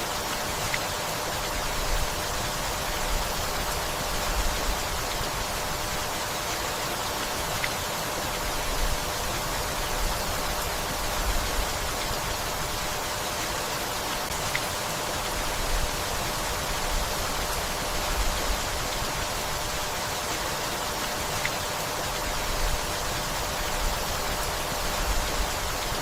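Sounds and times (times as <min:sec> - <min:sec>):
gentle rain falling: 0:00.0 - 0:26.0.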